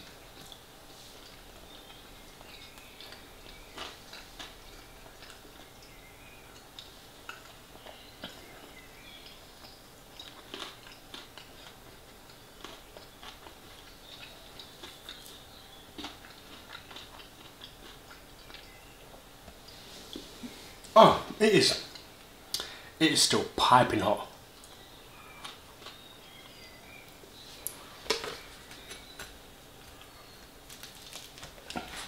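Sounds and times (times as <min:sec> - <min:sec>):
person chewing with wet smacks: 0:00.0 - 0:20.6, 0:24.6 - 0:32.0.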